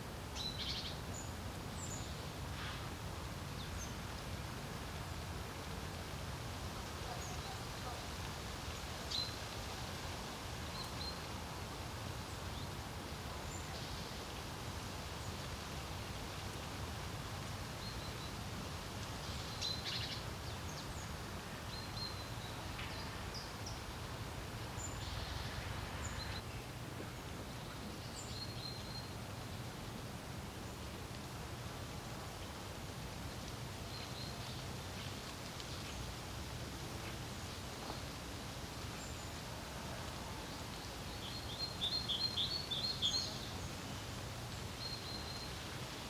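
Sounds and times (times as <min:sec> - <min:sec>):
songbirds chirping: 0:00.0 - 0:46.0
wind with low rumble: 0:00.0 - 0:46.0.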